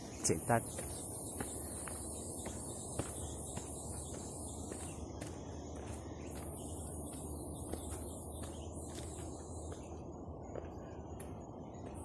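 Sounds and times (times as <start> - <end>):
high-pitched insect chorus: 0.0 - 9.8
footsteps on stone stairs: 0.6 - 12.0.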